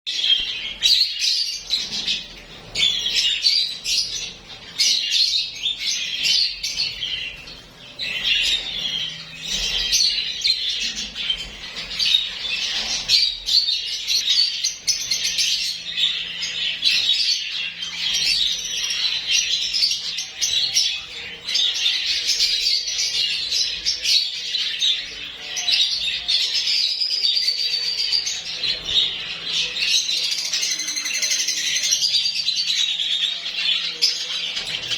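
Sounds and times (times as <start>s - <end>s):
lovebirds chattering: 0.1s - 34.9s.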